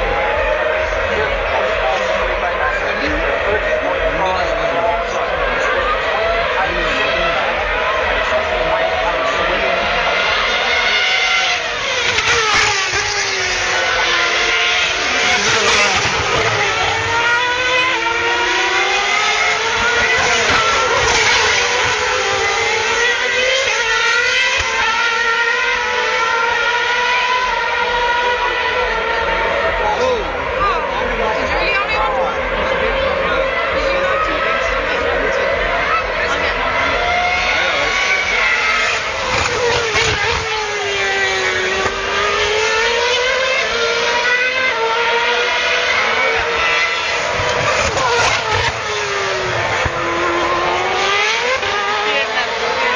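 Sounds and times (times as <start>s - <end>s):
racing car engines screaming at high revs: 0.0s - 52.9s.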